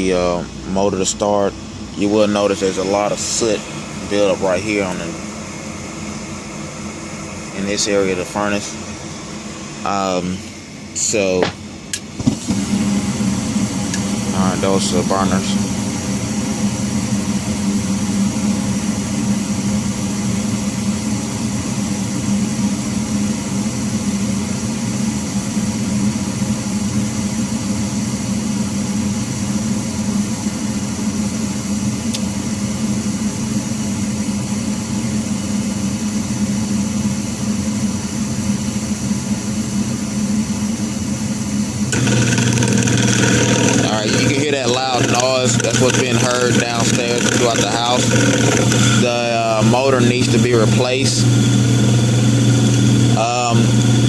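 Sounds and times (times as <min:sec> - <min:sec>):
furnace blower motor humming: 0:00.0 - 0:54.0
gas furnace burners humming: 0:00.0 - 0:54.0.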